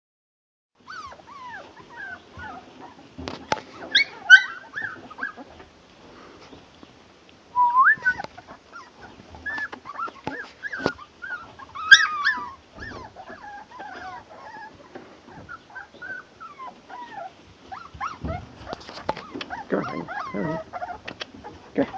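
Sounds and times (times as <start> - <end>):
puppy yelps: 0.8 - 3.0, 3.8 - 5.6, 7.6 - 21.6
puppies whimpering and yipping: 0.8 - 5.7, 7.6 - 21.9.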